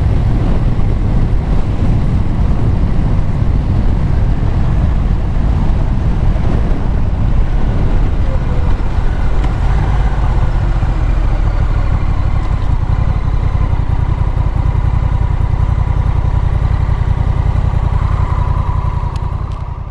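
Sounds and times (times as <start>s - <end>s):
motorcycle engine idling: 0.0s - 19.9s.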